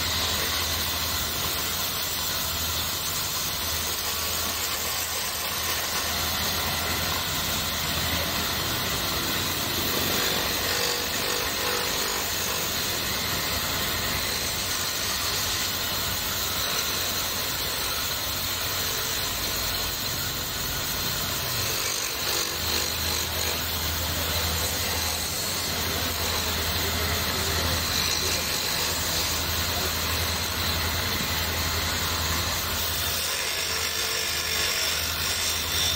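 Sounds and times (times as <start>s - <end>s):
chisel shaving wood: 0.0s - 20.0s, 20.6s - 35.9s
lathe motor hum: 0.0s - 35.9s.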